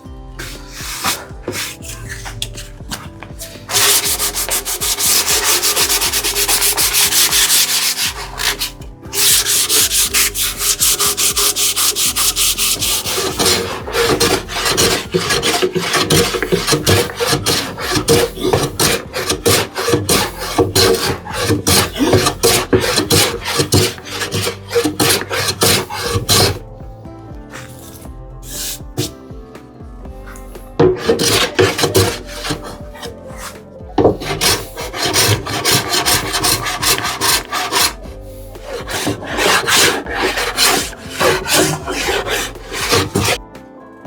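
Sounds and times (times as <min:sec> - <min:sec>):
hand tool rubbing on wood: 0:00.0 - 0:26.7, 0:27.5 - 0:29.2, 0:30.3 - 0:43.4.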